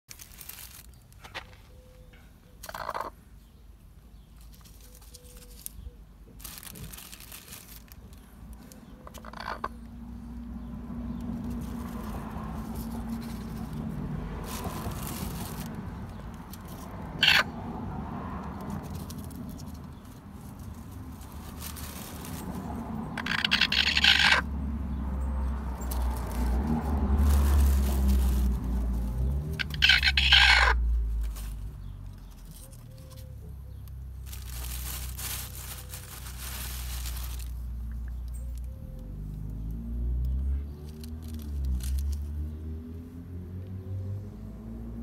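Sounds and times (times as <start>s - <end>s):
rustling of dry leaves: 0.1s - 45.0s.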